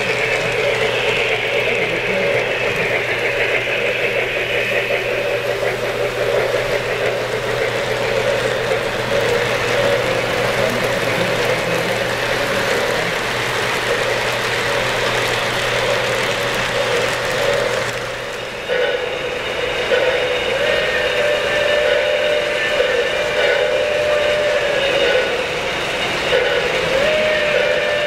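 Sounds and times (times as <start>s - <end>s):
model train wheels rumbling: 0.0s - 28.0s.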